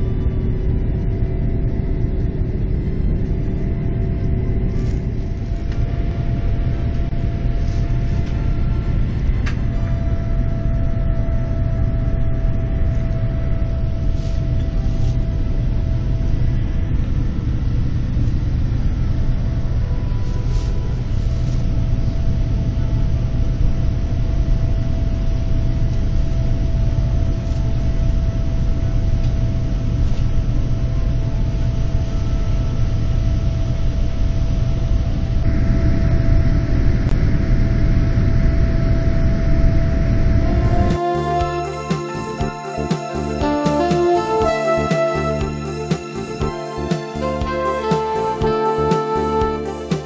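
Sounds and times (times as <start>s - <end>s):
constant whine: 0.0s - 50.0s
jet engines and airflow rumble: 0.0s - 50.0s.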